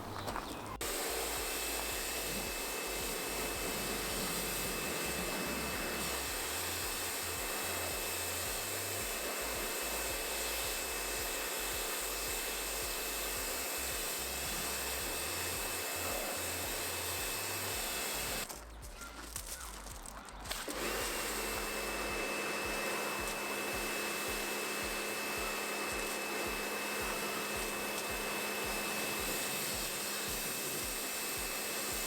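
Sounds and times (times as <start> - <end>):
pressure washer spraying water: 0.8 - 18.5, 20.5 - 32.0.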